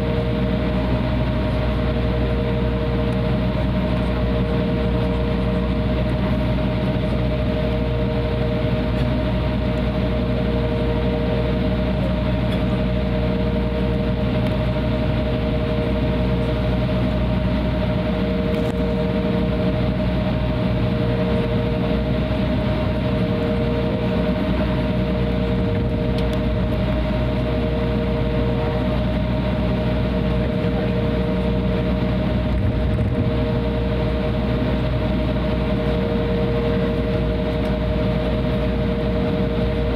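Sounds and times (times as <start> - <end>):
jet engines idling: 0.0 - 39.9
lower engine tone: 0.0 - 39.9.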